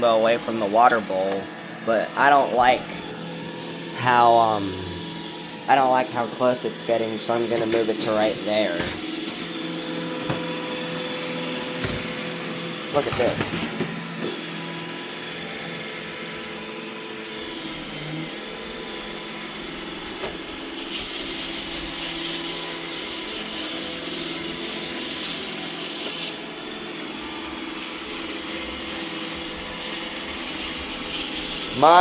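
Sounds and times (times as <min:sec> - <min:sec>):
robot vacuum running: 0:00.1 - 0:32.0.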